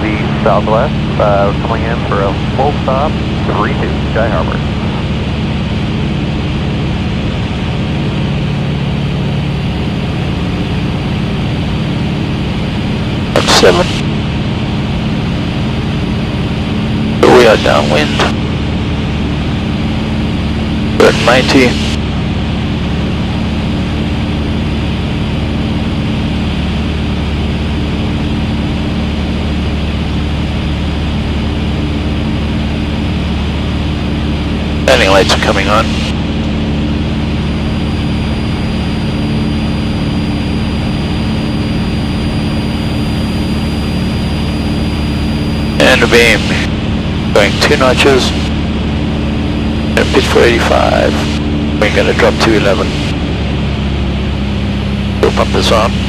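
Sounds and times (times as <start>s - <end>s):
aircraft engine droning in cockpit: 0.0s - 56.0s.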